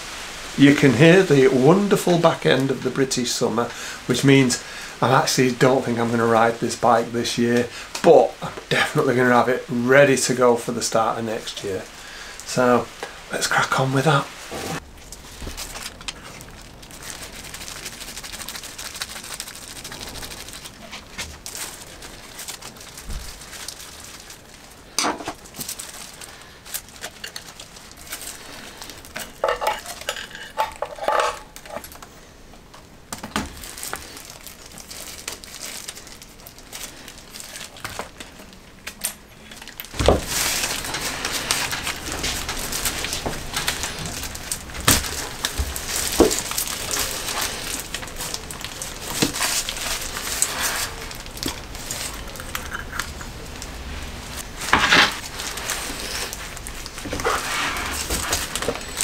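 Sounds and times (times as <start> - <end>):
rain hissing: 0.0 - 59.0.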